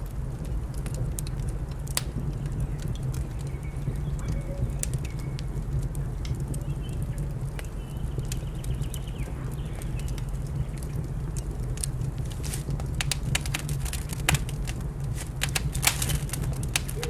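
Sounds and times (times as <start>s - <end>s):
steady low rumble: 0.0s - 17.0s
wood fire crackling and popping: 0.0s - 17.0s.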